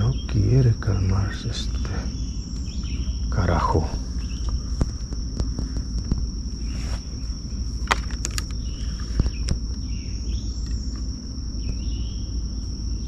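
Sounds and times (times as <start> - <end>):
insects trilling: 0.0 - 13.0
low rumbling noise: 0.0 - 13.0.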